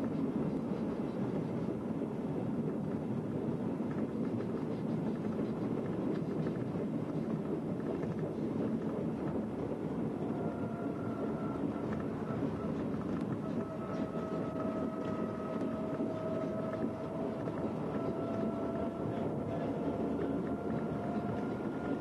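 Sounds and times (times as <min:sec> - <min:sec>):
rail vehicle engine and wheels: 0:00.0 - 0:22.0.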